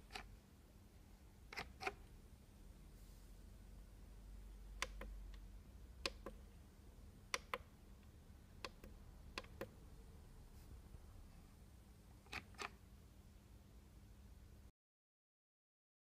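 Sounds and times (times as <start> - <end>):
faint low hum: 0.0 - 14.7.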